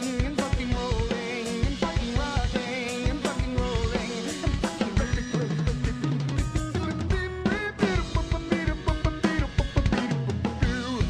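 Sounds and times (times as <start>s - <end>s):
bass line: 0.0s - 11.0s
drum kit beat: 0.0s - 11.0s.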